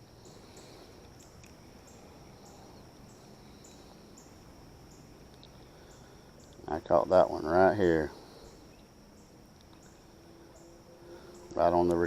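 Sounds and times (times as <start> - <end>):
distant road traffic hum: 0.0 - 12.0
insects buzzing and chirping: 0.0 - 12.0.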